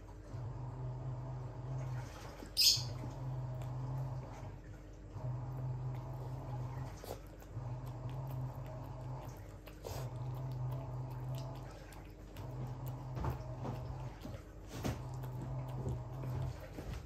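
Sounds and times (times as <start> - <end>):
dog lapping and chewing: 1.2 - 17.0.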